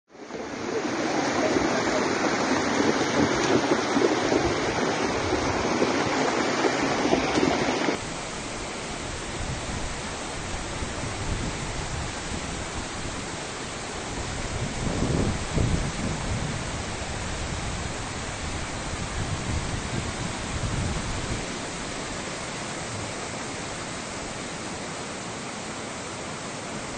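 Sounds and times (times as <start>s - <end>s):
floodwater rushing: 0.1s - 26.9s.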